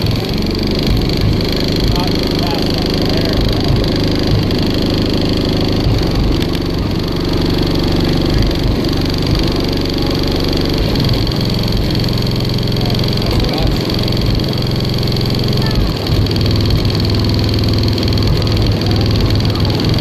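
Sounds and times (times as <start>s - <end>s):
subwoofers playing deep bass: 0.0s - 20.0s.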